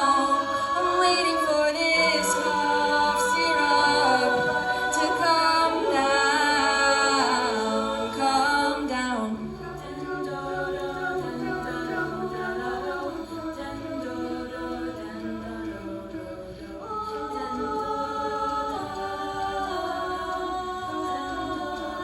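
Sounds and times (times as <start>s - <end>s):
a cappella vocal harmony: 0.0s - 22.0s.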